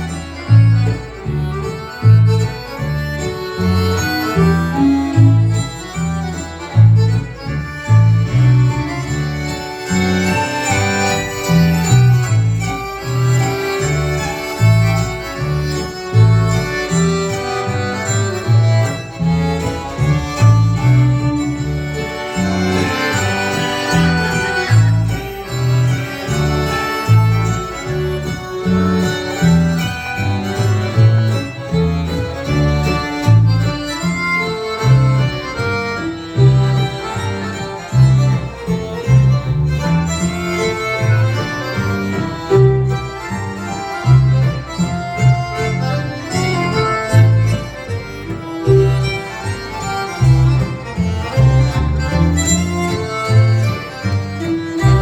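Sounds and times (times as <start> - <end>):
dance band playing: 0.0 - 55.0
fiddle melody: 0.0 - 55.0.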